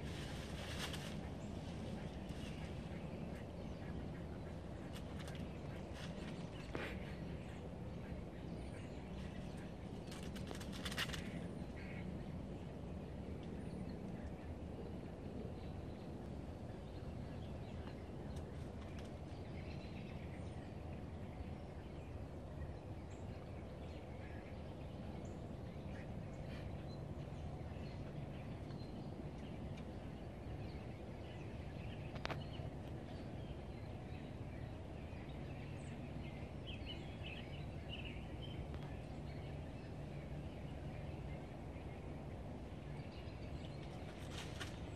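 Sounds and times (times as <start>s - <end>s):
faint bird calls: 0.0s - 42.1s
steady low rumble: 0.0s - 44.9s.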